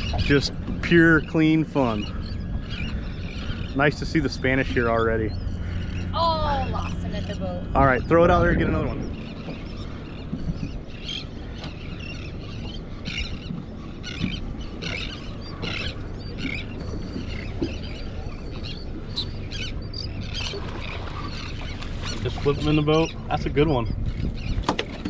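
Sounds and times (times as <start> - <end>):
low rumble: 0.0 - 24.7
seabirds calling: 0.0 - 25.0.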